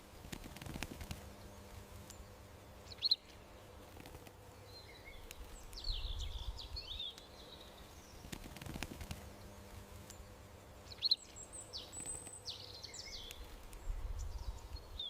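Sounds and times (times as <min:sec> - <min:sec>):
low outdoor background: 0:00.0 - 0:15.0
small birds chirping: 0:00.0 - 0:15.0.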